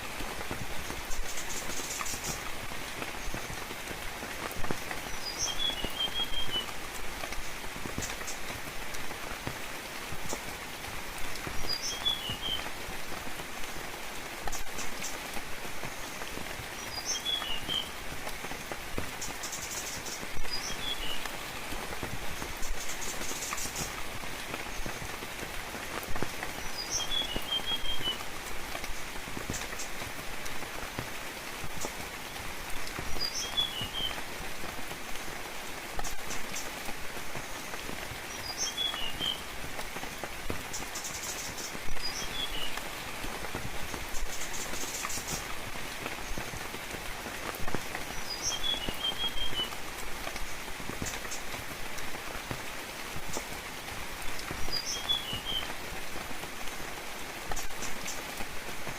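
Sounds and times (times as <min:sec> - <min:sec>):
rain drops close by: 0:00.0 - 0:58.9
rain falling: 0:00.0 - 0:58.9.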